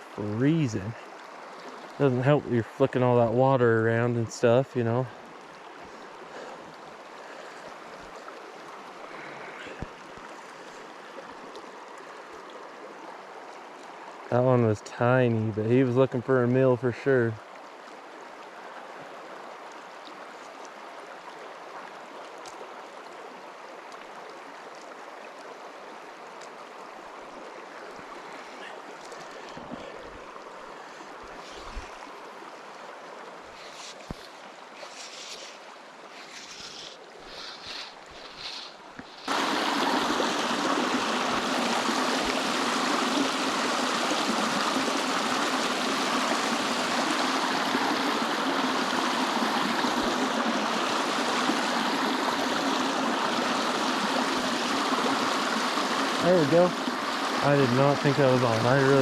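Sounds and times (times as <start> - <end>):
river water rushing: 0.0 - 15.3, 17.4 - 59.0.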